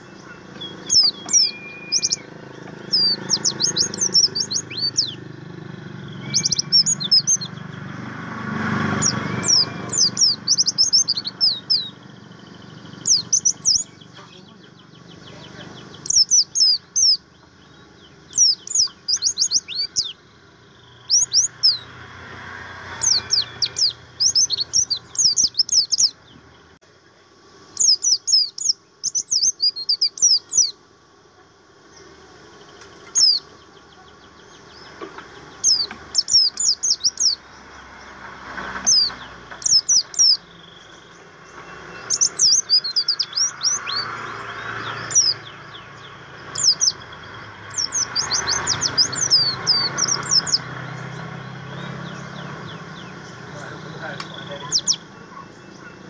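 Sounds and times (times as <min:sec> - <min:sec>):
bird singing high notes: 0:00.0 - 0:26.4, 0:27.8 - 0:30.8, 0:33.0 - 0:33.6, 0:34.6 - 0:37.7, 0:38.7 - 0:55.9.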